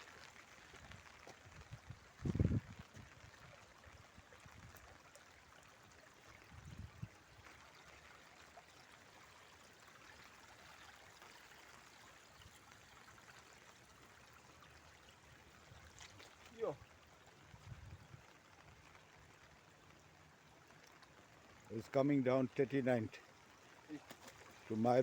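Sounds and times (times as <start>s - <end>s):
floodwater rushing down street: 0.0s - 25.0s.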